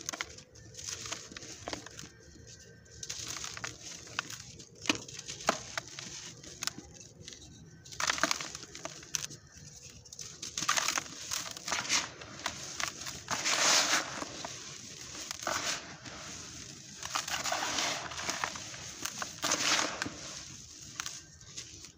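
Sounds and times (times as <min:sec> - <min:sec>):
grit pouring and sifting: 0:00.0 - 0:09.5, 0:10.2 - 0:21.9
hands crunching dry sand-cement: 0:00.0 - 0:21.9.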